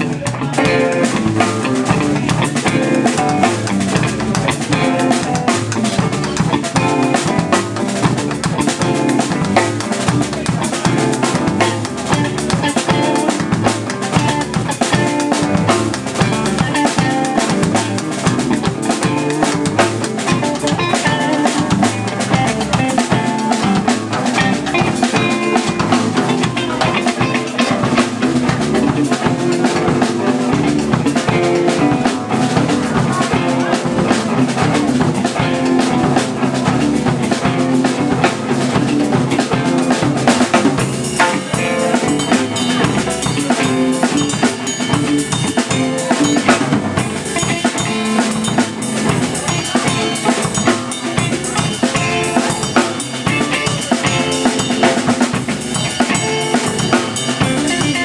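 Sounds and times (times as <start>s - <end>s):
electric guitars: 0.0s - 58.0s
live rock band playing: 0.0s - 58.0s.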